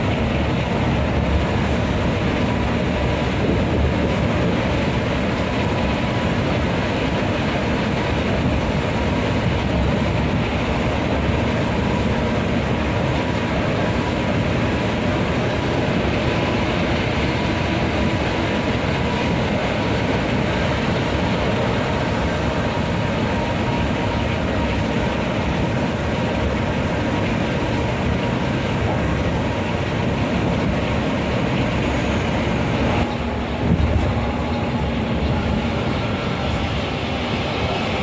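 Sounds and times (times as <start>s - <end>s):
bus engine and tyres droning: 0.0s - 38.0s.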